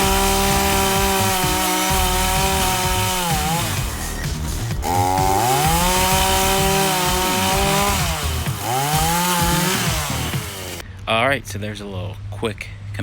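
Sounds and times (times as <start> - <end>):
chainsaw cutting branches: 0.0 - 10.8.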